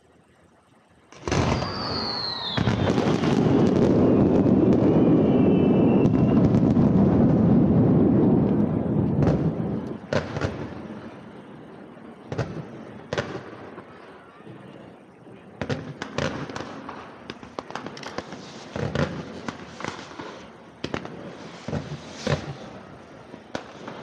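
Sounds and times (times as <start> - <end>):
fireworks crackling and booming: 1.0 - 24.0
falling firework whistle: 1.1 - 24.0.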